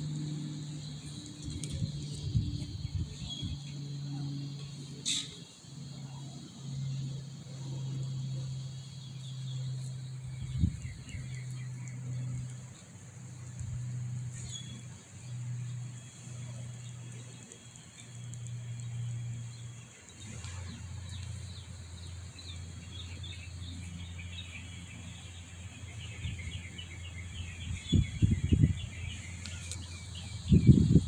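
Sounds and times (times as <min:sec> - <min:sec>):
small birds chirping: 0:00.0 - 0:31.0
steady low hum: 0:00.0 - 0:31.0.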